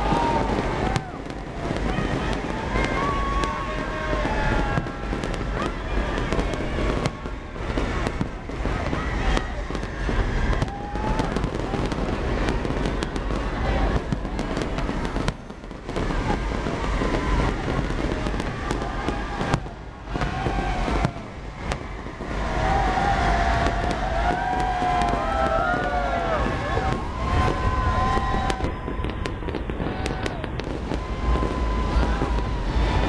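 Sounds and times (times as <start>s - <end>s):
firework shell bursts and crackle: 0.0s - 33.0s
pitched wavering fireworks: 0.0s - 33.0s.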